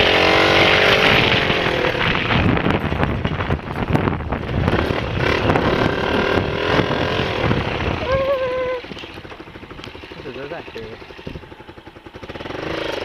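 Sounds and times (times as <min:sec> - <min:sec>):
dirt bike engine running rough: 0:00.0 - 0:13.0.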